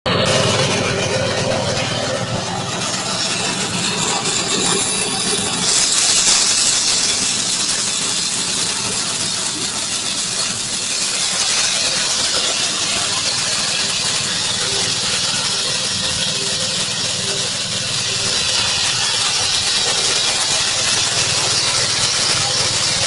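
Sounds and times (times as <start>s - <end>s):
engine humming: 0.0s - 23.0s
grinding mill hissing grind: 0.1s - 23.0s.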